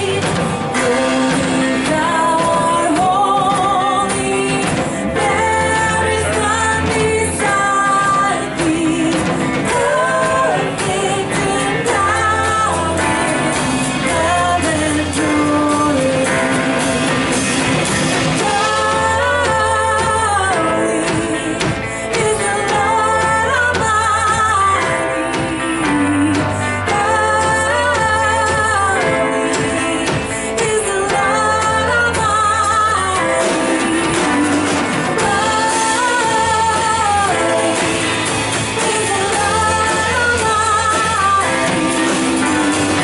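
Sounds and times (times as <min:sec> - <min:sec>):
lead voice singing: 0:00.0 - 0:43.0
worship band playing: 0:00.0 - 0:43.0.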